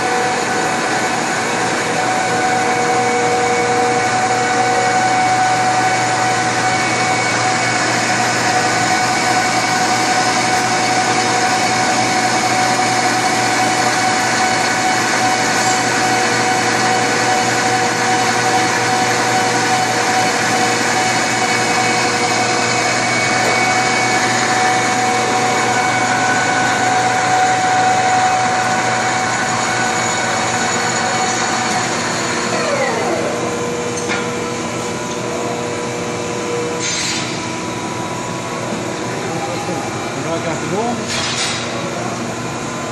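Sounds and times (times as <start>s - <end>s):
lathe whirring hum: 0.0s - 42.9s.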